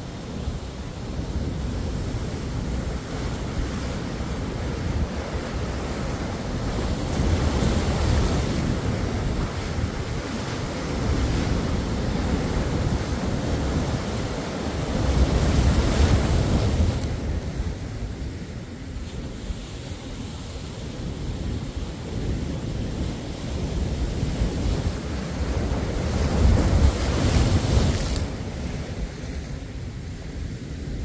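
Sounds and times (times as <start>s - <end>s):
ocean waves washing onto shore: 0.0s - 31.0s
wind rumble on microphone: 0.0s - 31.0s.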